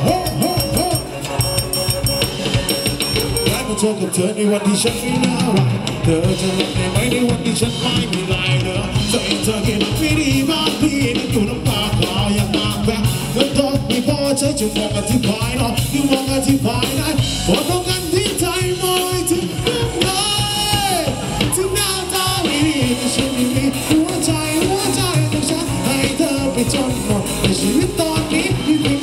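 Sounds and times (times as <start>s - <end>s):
live band dance music: 0.0s - 29.0s
person singing: 0.0s - 29.0s.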